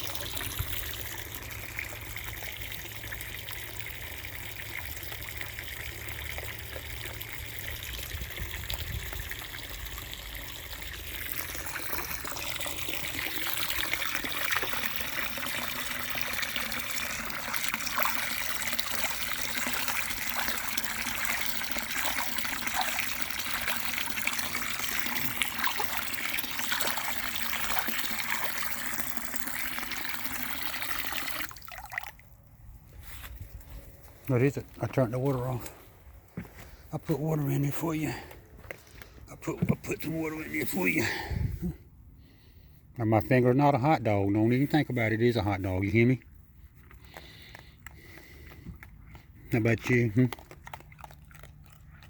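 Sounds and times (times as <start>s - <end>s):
water filling a container: 0.0s - 32.4s, 37.0s - 41.6s, 43.3s - 52.0s.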